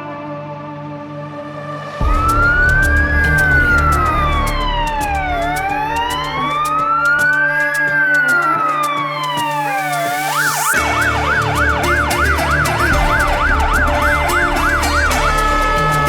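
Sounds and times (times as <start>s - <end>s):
fire engine siren: 1.4s - 16.0s.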